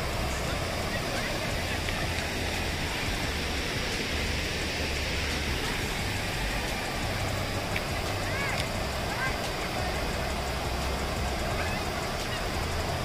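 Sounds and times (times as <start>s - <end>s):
low rumble: 0.0s - 13.0s
rushing water: 0.0s - 13.0s.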